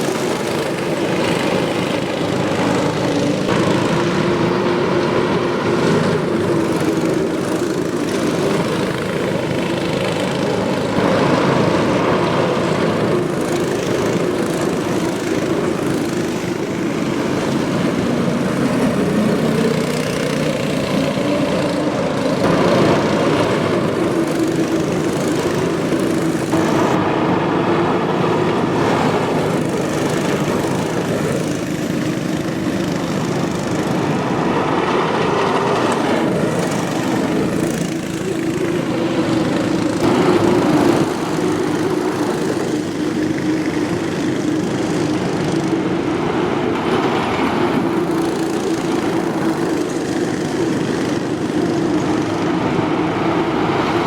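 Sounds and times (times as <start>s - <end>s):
small kart engines running: 0.0s - 54.0s.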